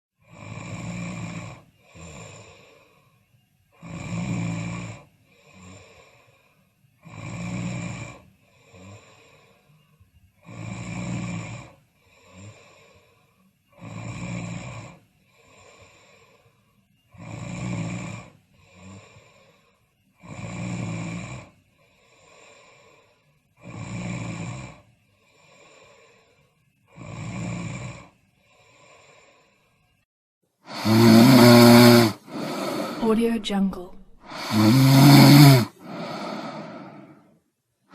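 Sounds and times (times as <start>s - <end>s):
person snoring: 0.2s - 3.1s, 3.8s - 9.7s, 10.4s - 29.8s, 30.7s - 37.4s.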